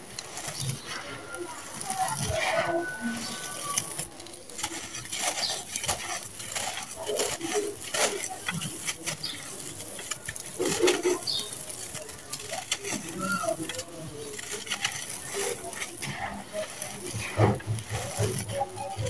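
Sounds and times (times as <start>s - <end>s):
hands crumbling dry cement: 0.0s - 19.0s.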